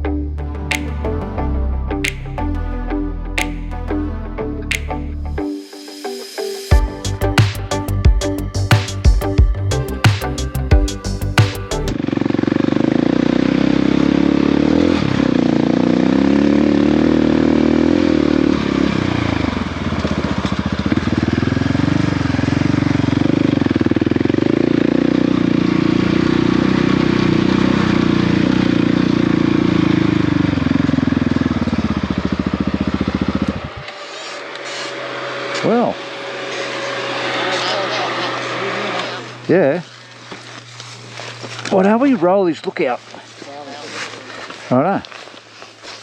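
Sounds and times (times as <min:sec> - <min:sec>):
motorcycle engine revving: 0:06.6 - 0:46.0.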